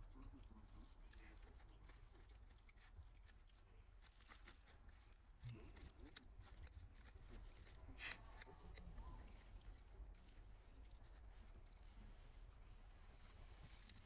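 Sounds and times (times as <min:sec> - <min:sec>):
small clicks and crackles: 0:00.0 - 0:14.0.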